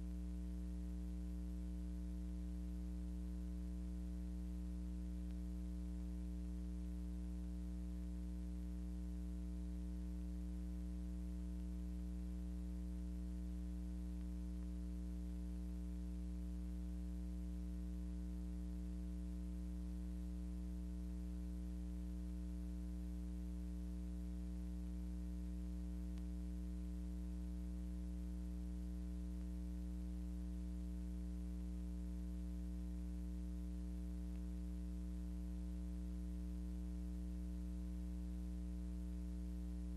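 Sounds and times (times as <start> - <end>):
electrical mains buzz: 0.0 - 39.9.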